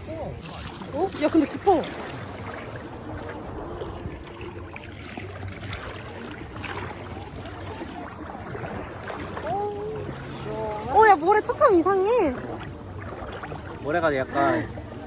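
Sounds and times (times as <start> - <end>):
sea water lapping: 0.0 - 15.0
small splashes: 0.0 - 15.0.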